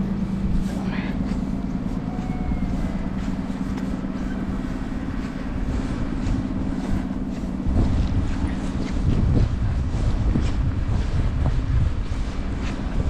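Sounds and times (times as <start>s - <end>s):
city traffic rumble: 0.0s - 13.0s
wind on microphone: 0.0s - 13.0s.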